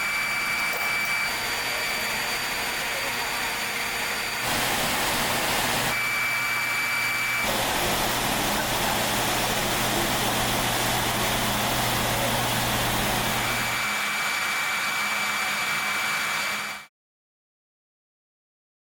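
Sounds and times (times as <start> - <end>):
faint high whine: 0.0 - 16.8.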